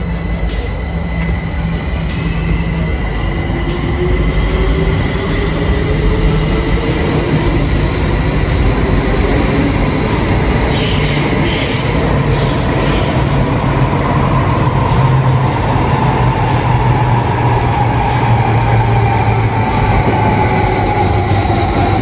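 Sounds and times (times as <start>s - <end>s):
falling whine: 0.0s - 22.0s
train rumble: 0.0s - 22.0s.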